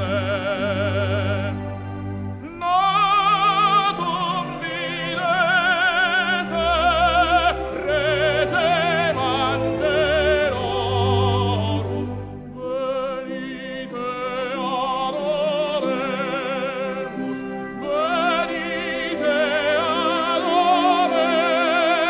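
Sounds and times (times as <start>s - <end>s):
musical accompaniment: 0.0s - 22.0s
person singing with vibrato: 0.0s - 22.0s.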